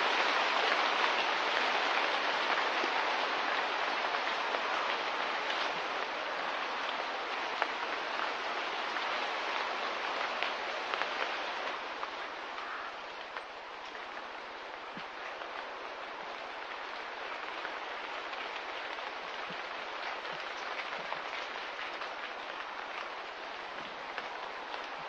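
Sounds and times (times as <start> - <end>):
light rain hiss: 0.0 - 25.0
rain drop ticks: 3.5 - 25.0.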